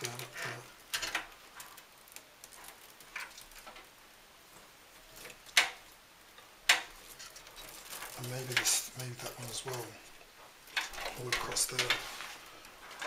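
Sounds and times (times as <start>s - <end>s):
cable ties clicking and rustling: 0.0s - 4.0s, 5.0s - 13.0s.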